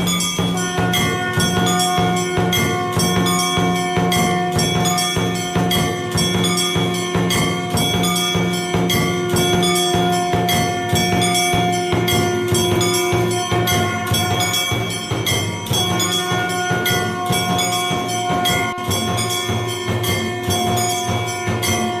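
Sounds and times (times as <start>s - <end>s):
music with fast percussion and bells: 0.0s - 22.0s.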